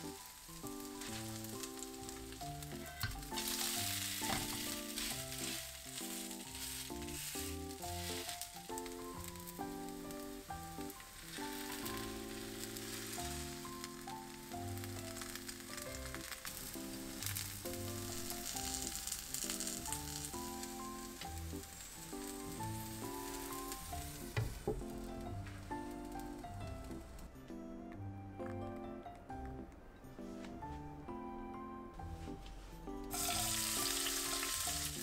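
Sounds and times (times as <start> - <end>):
food sizzling in a pan: 0.0 - 26.5, 33.1 - 35.0
gentle background music: 0.0 - 35.0.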